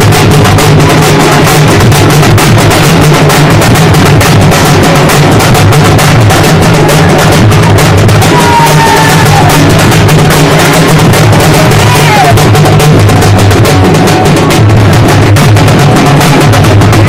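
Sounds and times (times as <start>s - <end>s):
frame drum beaten fast: 0.0s - 17.0s.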